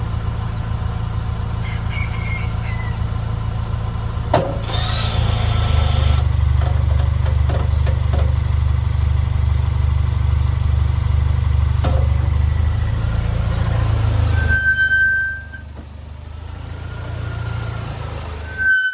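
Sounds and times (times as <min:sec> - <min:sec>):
engine running: 0:00.0 - 0:18.7.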